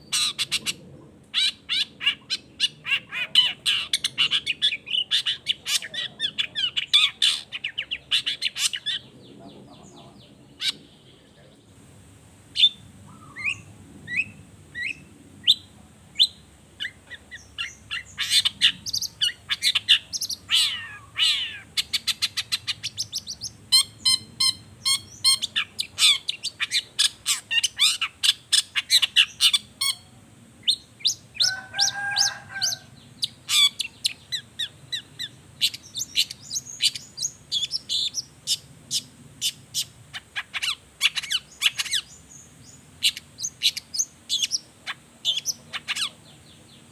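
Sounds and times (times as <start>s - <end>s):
harsh lower bird call: 0.0s - 11.7s, 12.5s - 46.9s
bird singing varied song: 0.0s - 11.8s, 12.5s - 46.9s.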